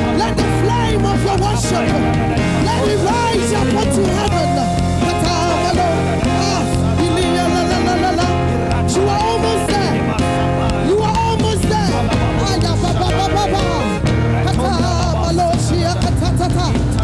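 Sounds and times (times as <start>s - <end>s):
worship music: 0.0s - 17.0s.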